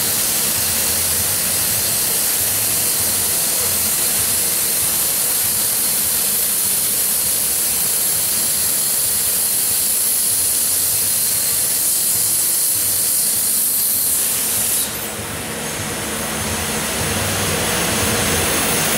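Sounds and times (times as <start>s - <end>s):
plasma torch hissing: 0.0s - 18.9s.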